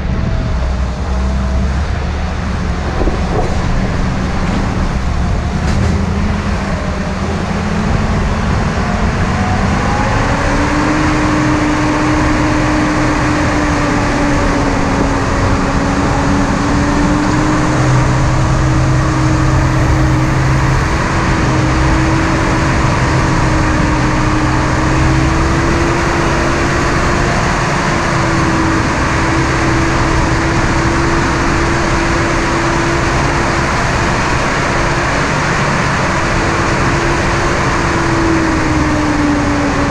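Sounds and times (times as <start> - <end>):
car engine running: 0.0 - 39.9
steady rushing noise: 0.0 - 39.9.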